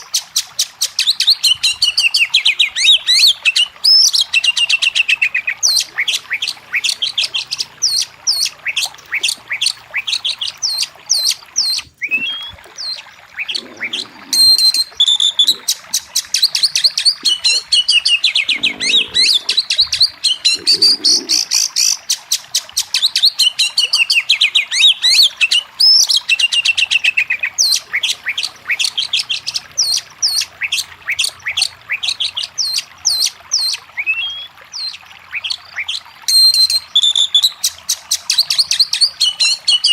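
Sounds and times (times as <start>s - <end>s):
bird singing chirps and whistles: 0.8s - 15.8s, 22.9s - 39.9s.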